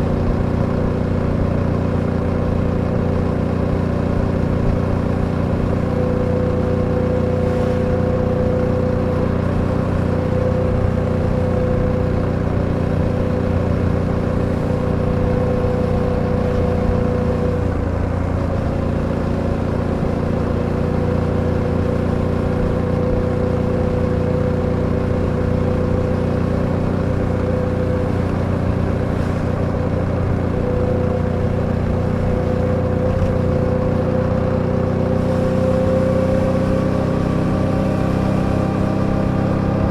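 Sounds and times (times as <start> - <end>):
motorcycle engine cruising: 0.0 - 39.9
rushing road noise: 0.0 - 39.9.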